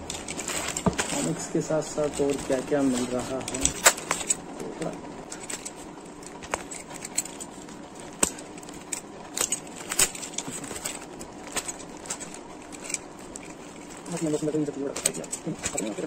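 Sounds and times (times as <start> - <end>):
plastic packaging rustling: 0.0 - 16.0.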